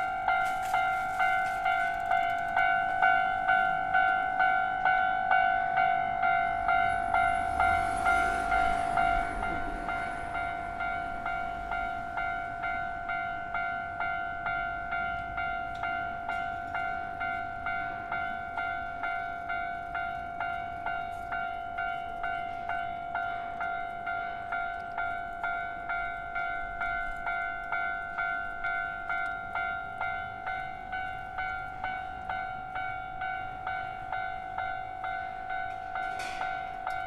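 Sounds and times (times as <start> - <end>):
level crossing alarm bell: 0.0 - 37.0.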